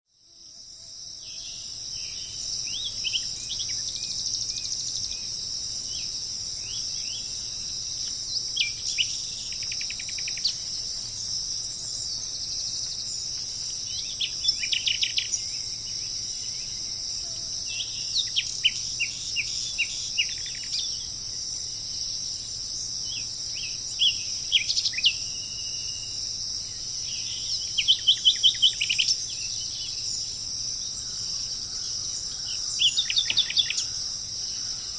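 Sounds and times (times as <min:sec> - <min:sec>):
crickets chirping: 0:00.1 - 0:34.9
songbirds chirping: 0:00.6 - 0:34.9.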